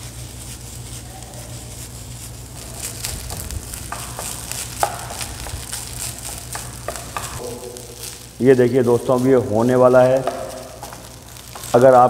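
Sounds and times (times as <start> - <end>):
rice sizzling in a pan: 0.0 - 12.0
spatula stirring and scraping: 0.0 - 12.0.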